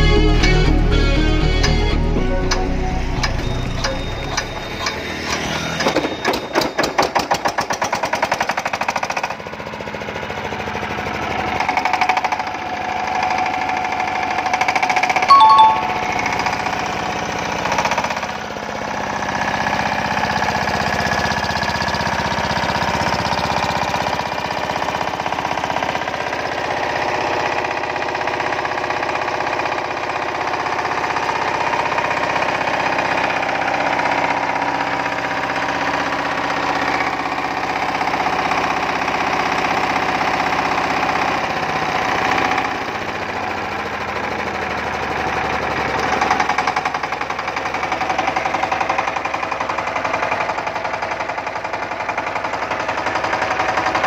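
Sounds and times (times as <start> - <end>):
diesel engine knocking: 3.8 - 15.2, 16.7 - 54.0.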